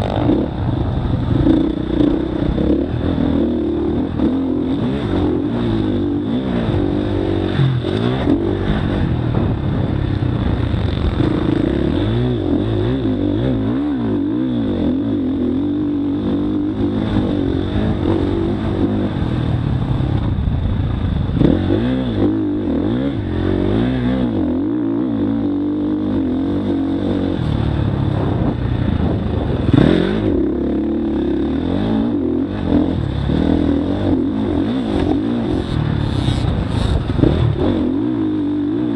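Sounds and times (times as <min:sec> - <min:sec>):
motocross bike engine revving: 0:00.0 - 0:20.4, 0:21.2 - 0:38.9.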